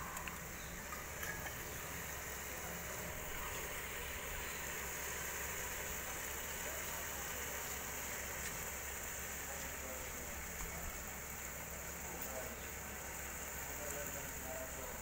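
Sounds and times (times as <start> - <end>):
curry hissing in a metal pot: 0.0 - 15.0.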